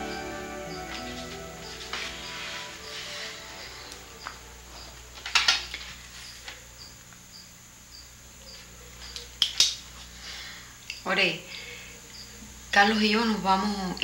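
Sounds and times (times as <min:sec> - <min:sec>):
cricket chirping: 0:00.0 - 0:14.0
faint hum: 0:00.0 - 0:14.0.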